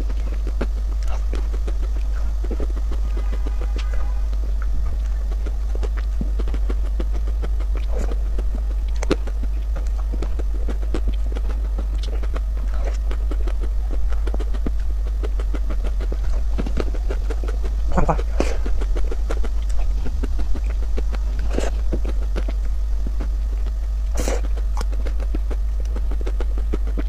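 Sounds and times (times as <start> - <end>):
steady low hum: 0.0 - 27.0
wet mouth eating sounds: 0.0 - 27.0.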